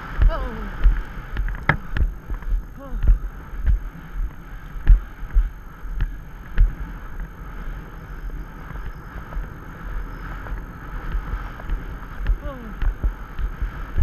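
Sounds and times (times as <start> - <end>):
hooves thudding on sand: 0.0 - 14.0
wind on microphone: 0.0 - 14.0.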